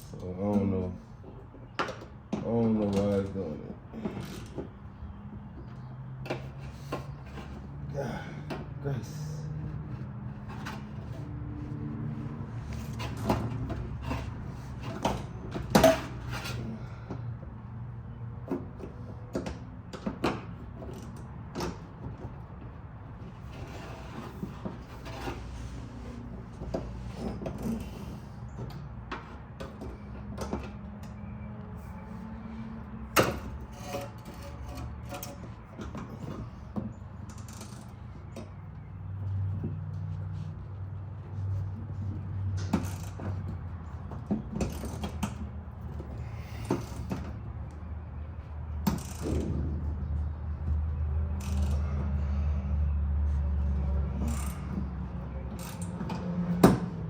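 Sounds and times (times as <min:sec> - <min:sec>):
tools clicking and clanking: 0:00.0 - 0:52.5, 0:53.4 - 0:57.0.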